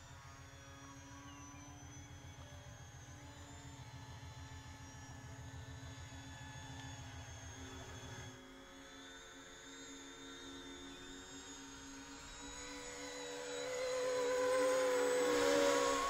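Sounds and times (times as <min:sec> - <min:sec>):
model plane propellers whirring: 0:00.0 - 0:16.0.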